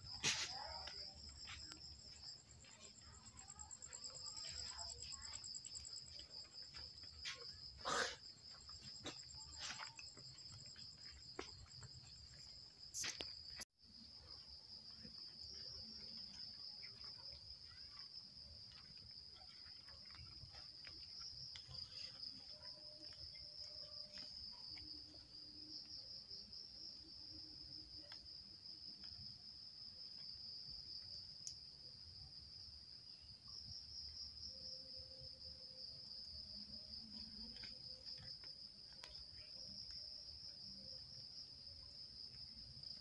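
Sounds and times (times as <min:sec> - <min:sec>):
night insects chirring: 0:00.0 - 0:43.0.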